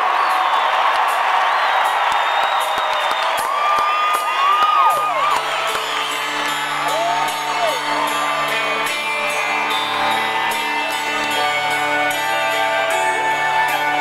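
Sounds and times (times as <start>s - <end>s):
crowd whooping and whistling: 0.0s - 14.0s
rock band playing: 1.9s - 14.0s.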